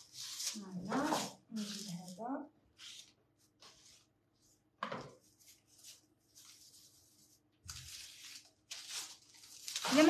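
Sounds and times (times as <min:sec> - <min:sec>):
baking paper rustling: 0:00.0 - 0:10.0.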